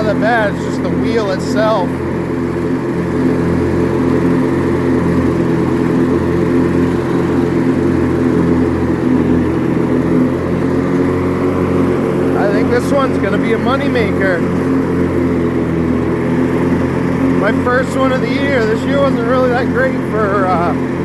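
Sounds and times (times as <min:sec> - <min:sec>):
riding mower engine running: 0:00.0 - 0:21.0.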